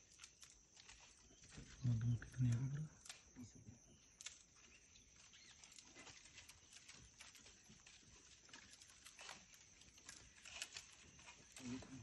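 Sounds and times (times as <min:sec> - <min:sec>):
faint ticks and rustles: 0:00.0 - 0:12.0.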